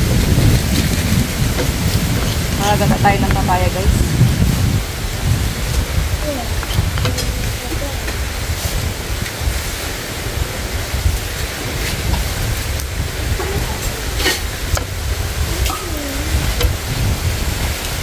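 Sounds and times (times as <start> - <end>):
steady hiss: 0.0 - 18.0
wind rumbling on microphone: 0.0 - 18.0.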